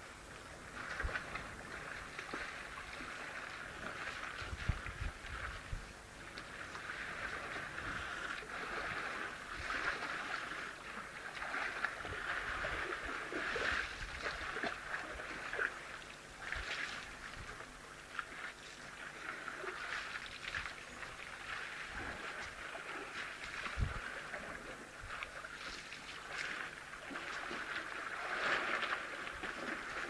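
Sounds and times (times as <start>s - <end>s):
elephants splashing in water: 0.6s - 30.0s.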